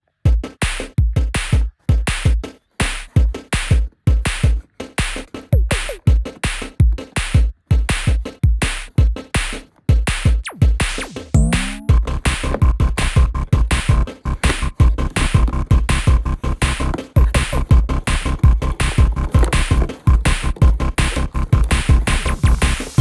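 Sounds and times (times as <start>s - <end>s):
electronic music with drum-machine beat: 0.0s - 23.0s.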